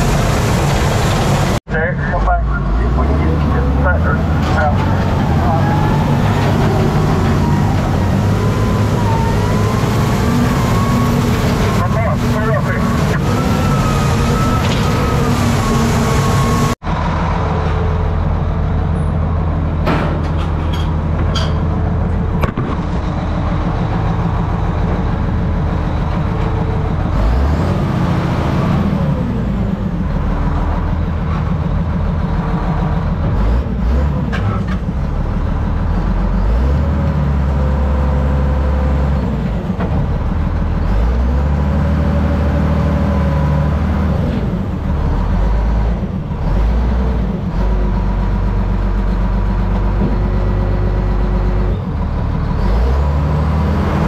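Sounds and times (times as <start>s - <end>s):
bulldozer diesel engine running hard: 0.0s - 54.0s.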